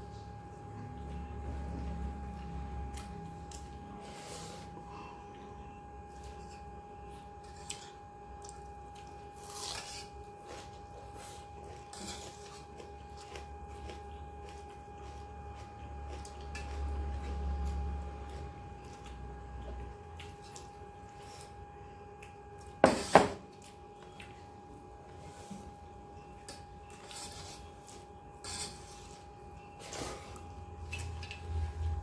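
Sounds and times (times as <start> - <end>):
soft chewing: 2.2 - 22.8, 23.5 - 32.0.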